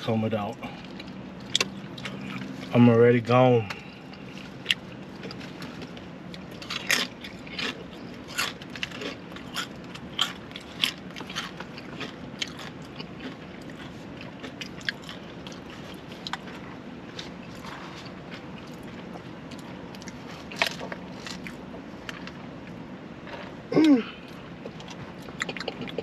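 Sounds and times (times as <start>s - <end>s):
steady low hum: 0.0s - 26.0s
chewing and crunching crisp food: 0.4s - 26.0s.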